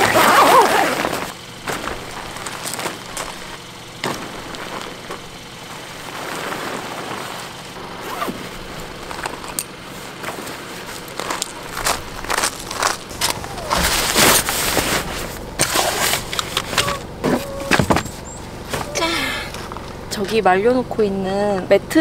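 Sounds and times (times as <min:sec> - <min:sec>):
nylon tent fabric rustling: 0:00.0 - 0:19.0
footsteps crunching on gravel: 0:00.0 - 0:20.0.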